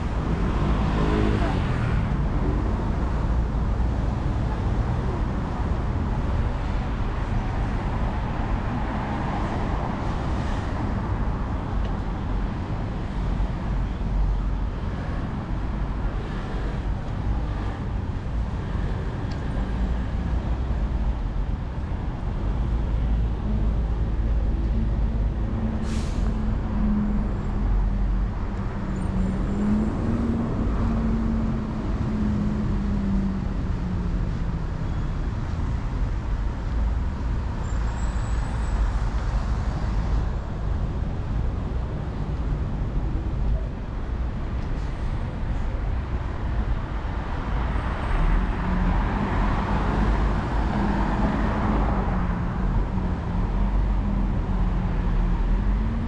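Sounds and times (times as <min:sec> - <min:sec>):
cars and buses passing: 0:00.0 - 0:56.0.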